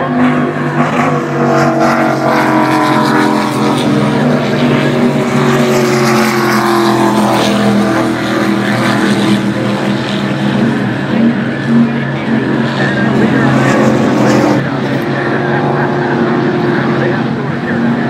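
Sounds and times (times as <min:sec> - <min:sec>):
powerboat engines passing: 0:00.0 - 0:18.0.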